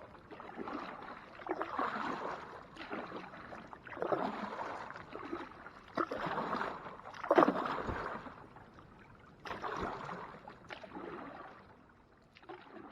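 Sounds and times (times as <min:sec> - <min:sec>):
kayak paddle splashing water: 0:00.3 - 0:08.6, 0:09.4 - 0:11.7.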